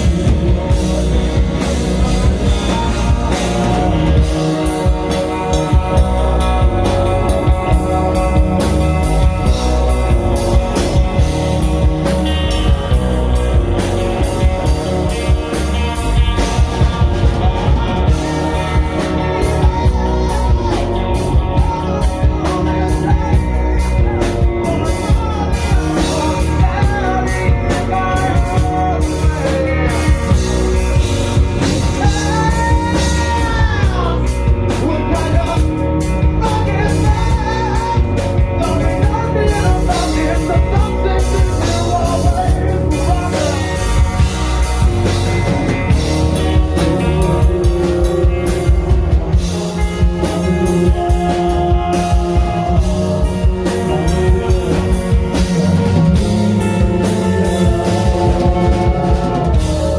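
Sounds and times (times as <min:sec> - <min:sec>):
person singing: 0:00.0 - 0:59.9
rock band playing: 0:00.0 - 0:59.9.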